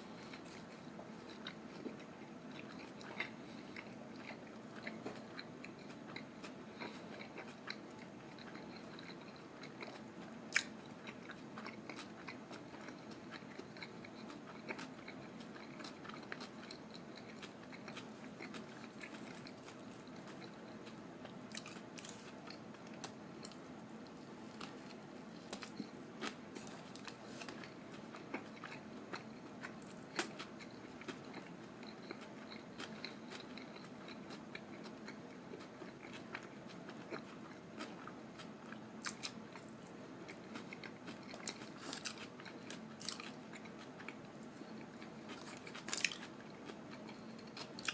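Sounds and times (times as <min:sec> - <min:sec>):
person chewing: 0:00.0 - 0:47.9.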